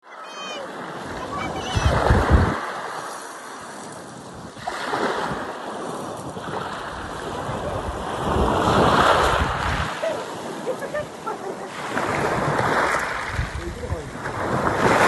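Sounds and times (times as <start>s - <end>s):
sea waves breaking on shore: 0.0s - 15.0s
wind buffeting microphone: 1.0s - 3.1s, 4.0s - 15.0s.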